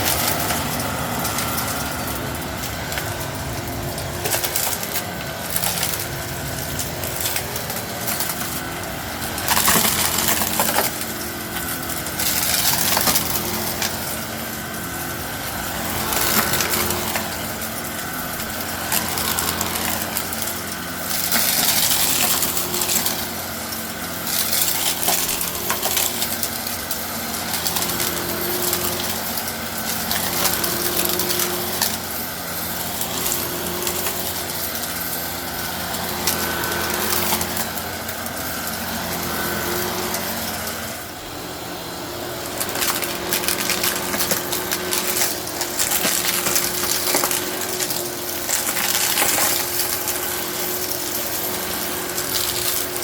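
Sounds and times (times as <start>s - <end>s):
gravel rattling through vacuum hose: 0.0s - 53.0s
upright vacuum motor hum: 0.0s - 53.0s.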